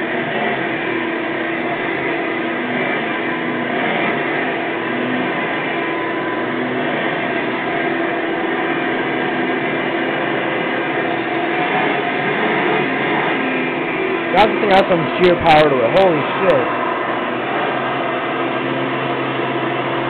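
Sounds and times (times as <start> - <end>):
upright vacuum cleaner running: 0.0 - 20.0.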